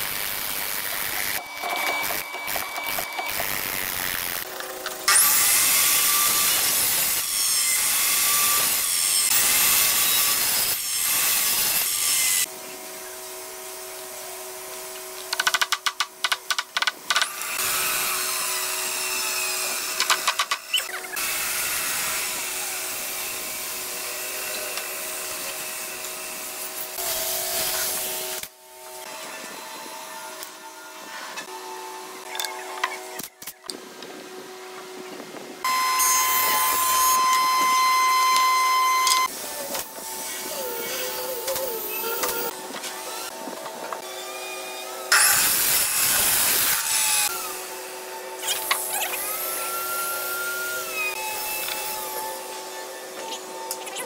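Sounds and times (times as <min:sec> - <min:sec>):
power saw cutting wood: 0:00.0 - 0:12.5, 0:17.1 - 0:32.3, 0:35.6 - 0:54.0.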